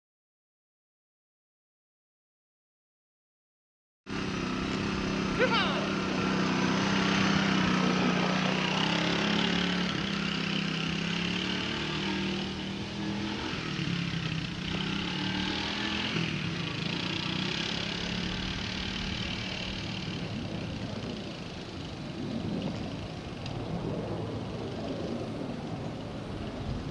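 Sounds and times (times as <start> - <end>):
small engine humming: 4.1 - 26.9.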